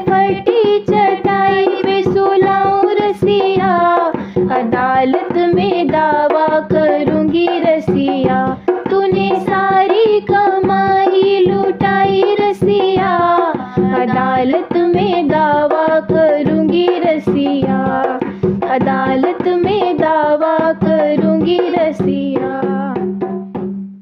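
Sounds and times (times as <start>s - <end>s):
hand drum strokes: 0.0s - 24.0s.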